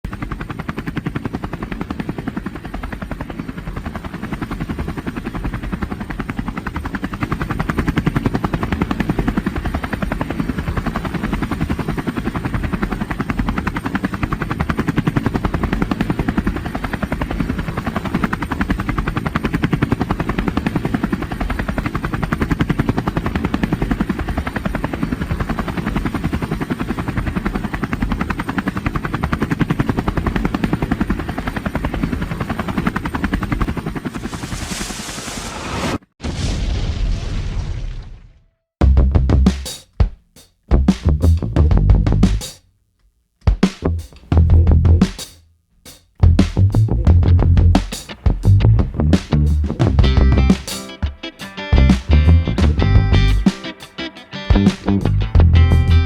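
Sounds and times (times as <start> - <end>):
helicopter rotor chopping: 0.0 - 36.0, 43.4 - 56.0.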